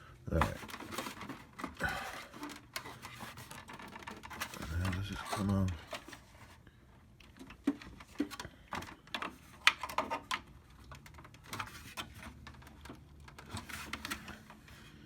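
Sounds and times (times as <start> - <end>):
hard plastic clicks and rattles: 0.3 - 15.0.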